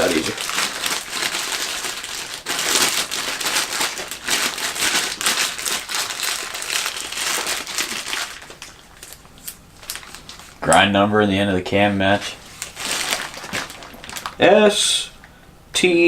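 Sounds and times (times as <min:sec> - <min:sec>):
packaging crinkling: 0:00.0 - 0:10.8, 0:12.2 - 0:14.5.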